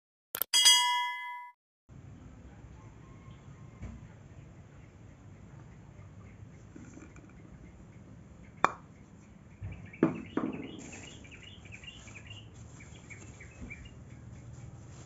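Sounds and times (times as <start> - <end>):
faint birds chirping: 2.8 - 15.0.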